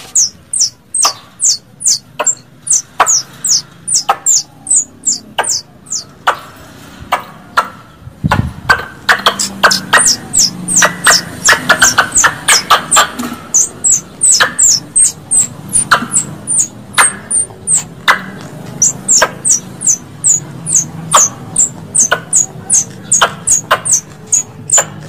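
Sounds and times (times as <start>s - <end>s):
squirrel chipping calls: 0.0s - 25.0s.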